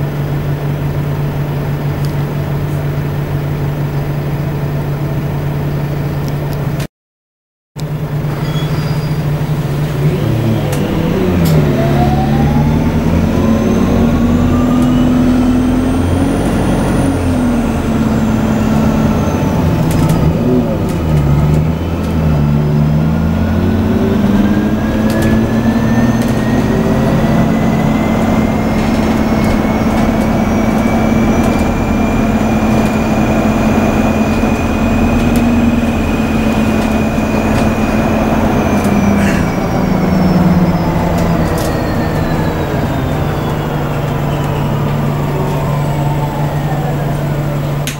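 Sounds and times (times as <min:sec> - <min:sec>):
low diesel engine drone: 0:00.0 - 0:06.9, 0:07.8 - 0:47.9
electric drive whine: 0:09.4 - 0:47.9.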